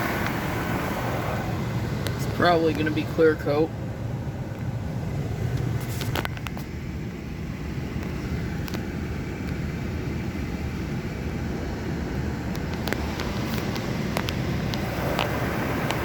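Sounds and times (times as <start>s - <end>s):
car wash machine rumble and hiss: 0.0s - 16.0s.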